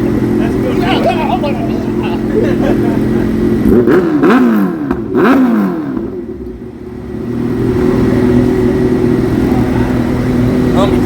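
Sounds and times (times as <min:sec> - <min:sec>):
motorcycle engine revving: 0:00.0 - 0:11.0
motorcycle engine running steadily: 0:00.0 - 0:11.0.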